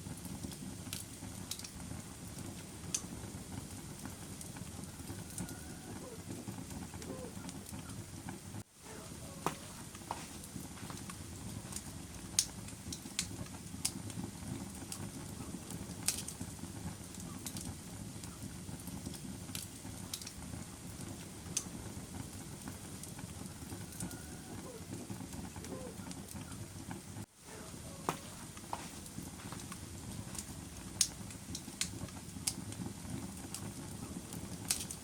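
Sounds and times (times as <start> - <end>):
fire flames rumbling: 0.0 - 35.0
wood crackling and popping: 0.0 - 35.0.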